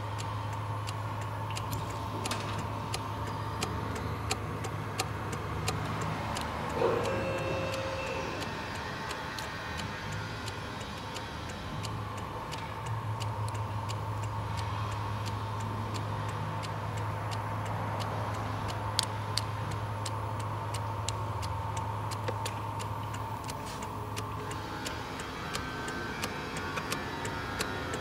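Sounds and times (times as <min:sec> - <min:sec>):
fast even ticking: 0:00.0 - 0:28.0.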